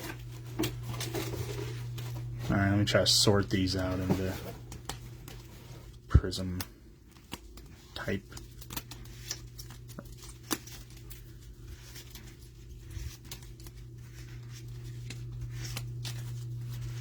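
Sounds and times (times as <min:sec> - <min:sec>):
cards clicking and rustling: 0:00.0 - 0:17.0
steady low hum: 0:00.0 - 0:17.0.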